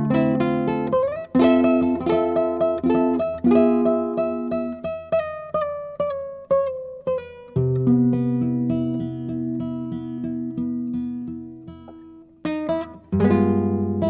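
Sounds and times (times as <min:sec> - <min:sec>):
plucked string instrument music: 0:00.0 - 0:14.0.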